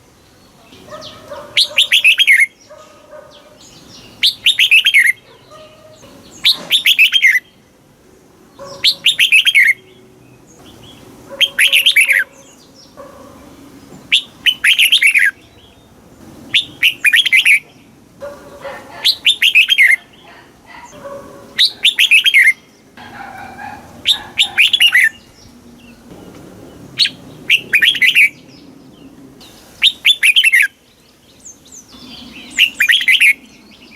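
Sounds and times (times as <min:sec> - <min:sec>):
bird singing: 0:00.0 - 0:33.9.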